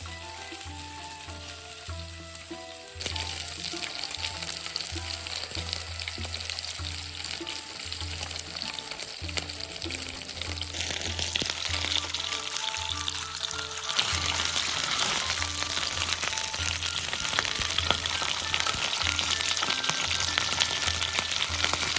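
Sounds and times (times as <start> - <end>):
fish sizzling in hot oil: 0.0 - 21.9.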